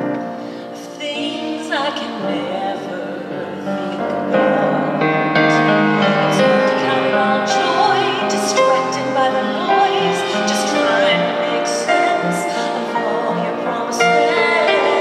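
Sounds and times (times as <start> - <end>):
piano playing held chords: 0.0 - 15.0
woman singing a slow ballad: 0.7 - 15.0.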